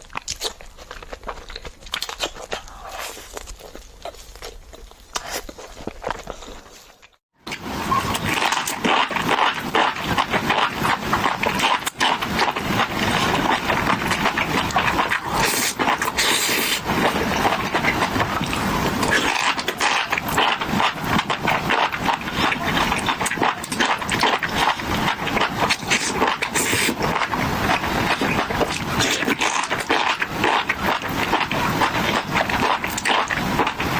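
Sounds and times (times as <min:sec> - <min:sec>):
wet chewing and slurping: 0:00.0 - 0:33.9.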